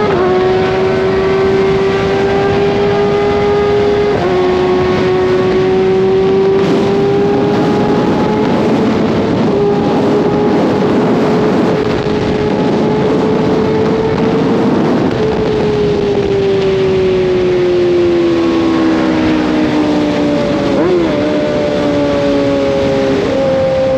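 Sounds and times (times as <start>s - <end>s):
motorcycle engine at high revs: 0.0s - 23.9s
wind rush on microphone: 0.0s - 23.9s.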